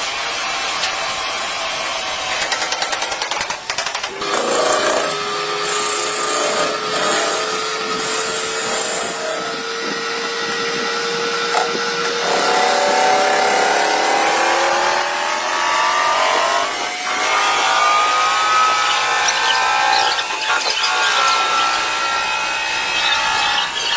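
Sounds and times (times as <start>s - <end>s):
lathe cutting with whine: 4.2s - 23.9s.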